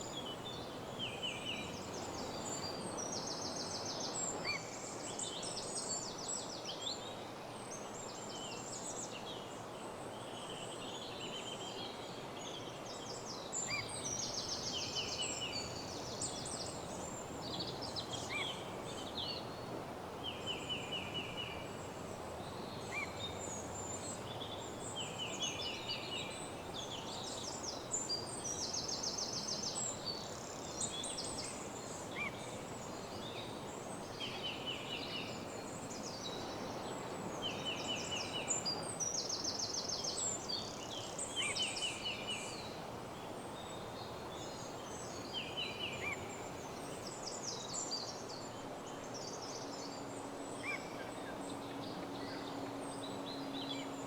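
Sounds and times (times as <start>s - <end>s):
songbirds singing: 0.0s - 4.6s, 13.4s - 54.0s
background hiss: 0.0s - 6.7s, 12.6s - 54.0s.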